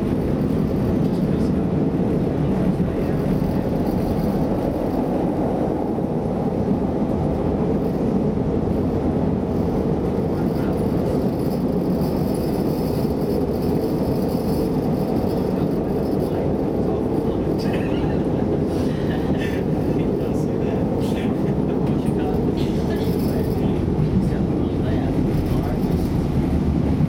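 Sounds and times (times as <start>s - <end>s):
train rumbling at speed: 0.0s - 27.0s.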